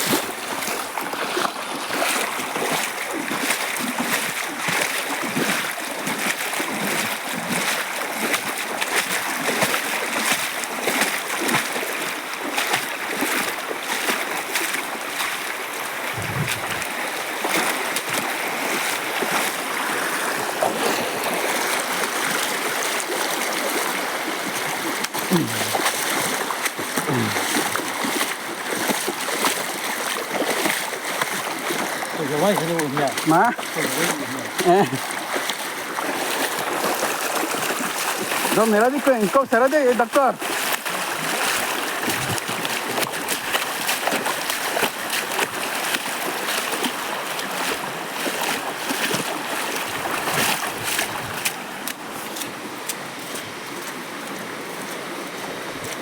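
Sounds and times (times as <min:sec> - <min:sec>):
stream water splashing: 0:00.0 - 0:56.0.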